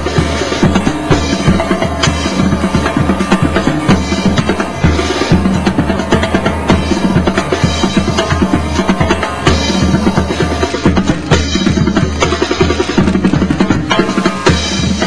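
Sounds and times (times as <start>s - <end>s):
loud music with fast drum beat: 0.0s - 15.0s.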